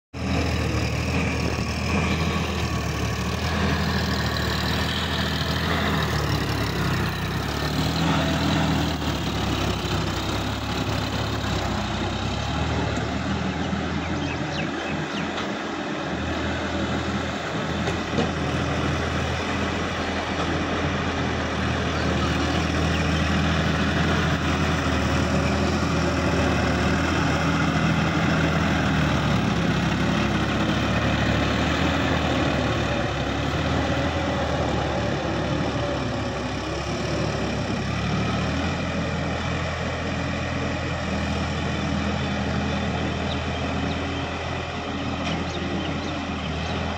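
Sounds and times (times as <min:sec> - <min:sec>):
tractor diesel engine running: 0:00.1 - 0:46.9
tiller churning mud: 0:00.2 - 0:46.9.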